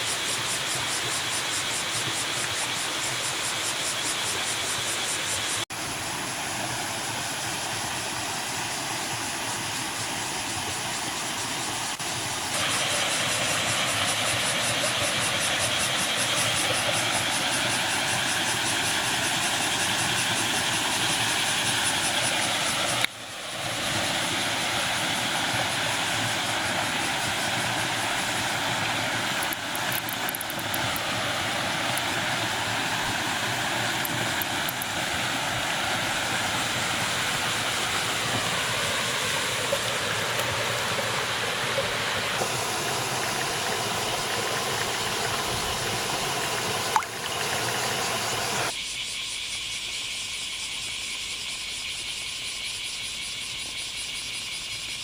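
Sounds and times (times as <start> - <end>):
cicadas calling: 0.0 - 55.0.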